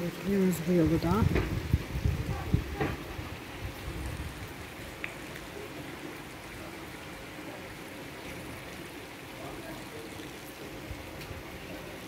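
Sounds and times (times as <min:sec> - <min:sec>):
rain on wet pavement: 0:00.0 - 0:12.0.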